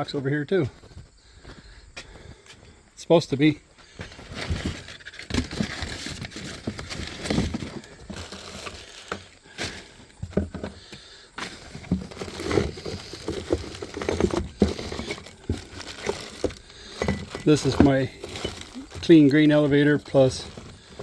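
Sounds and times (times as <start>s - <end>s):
rustling: 3.8s - 21.0s.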